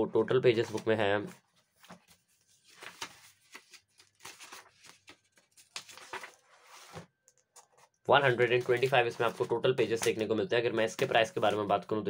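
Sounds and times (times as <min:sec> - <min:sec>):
book pages flipping: 0:00.6 - 0:10.2.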